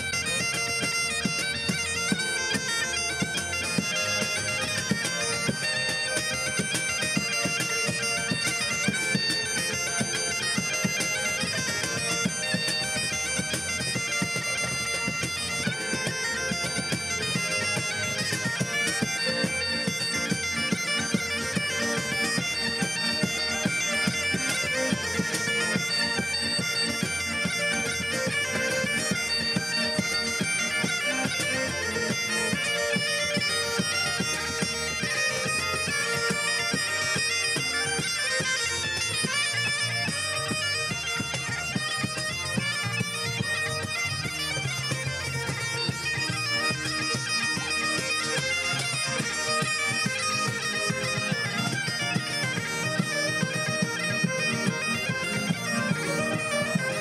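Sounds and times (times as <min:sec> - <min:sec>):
accordion: 0:00.0 - 0:57.0
bagpipes playing lively tune: 0:00.0 - 0:57.0
cajon beat: 0:00.0 - 0:57.0
fiddle: 0:00.0 - 0:57.0.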